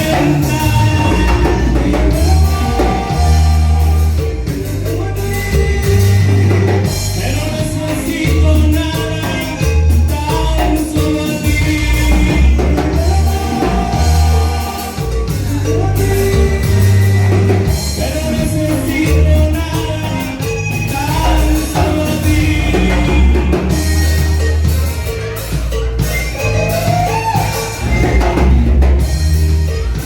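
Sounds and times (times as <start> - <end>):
band playing latin music: 0.0 - 30.0
drum kit: 0.0 - 30.0
heavy pulsing bass: 0.0 - 30.0
person singing: 0.0 - 30.0.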